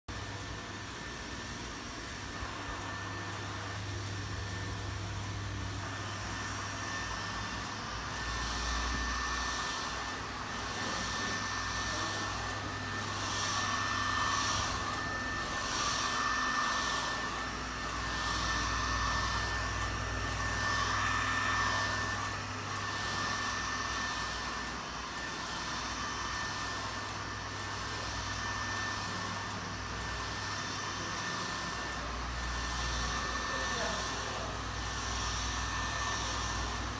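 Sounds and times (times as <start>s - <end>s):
printer low hum: 0.1s - 36.9s
thin high whine: 1.4s - 36.9s.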